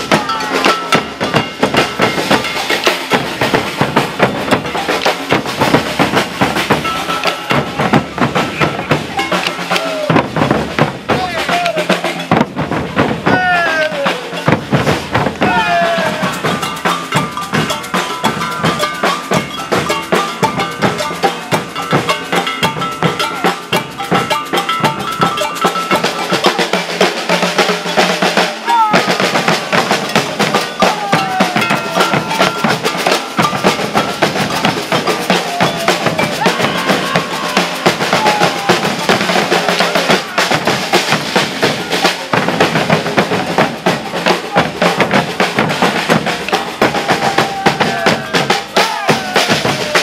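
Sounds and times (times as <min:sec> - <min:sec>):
metal bell ringing: 0:00.0 - 0:10.2, 0:15.6 - 0:27.4, 0:29.0 - 0:49.2
bass and snare drums: 0:00.0 - 0:50.0.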